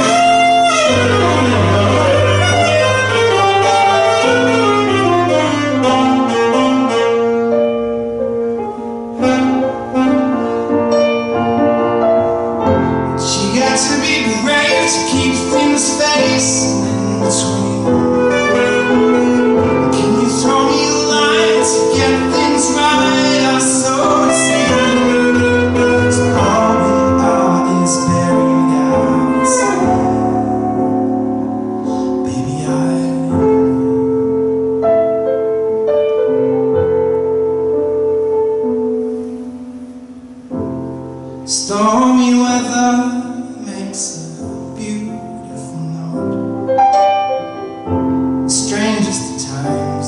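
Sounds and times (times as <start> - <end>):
electric keyboard chords: 0.0 - 50.0
saxophone melody: 0.0 - 50.0.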